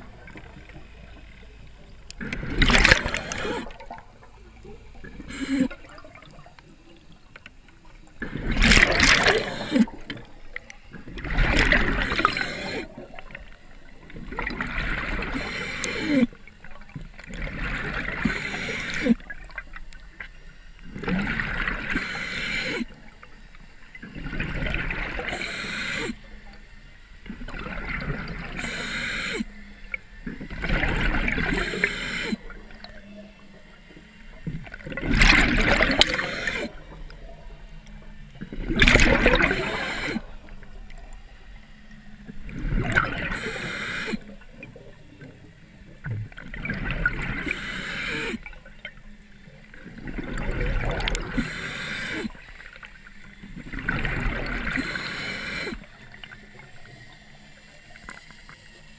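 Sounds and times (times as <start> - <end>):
exhaled bubbles gurgling underwater: 0.0 - 58.9.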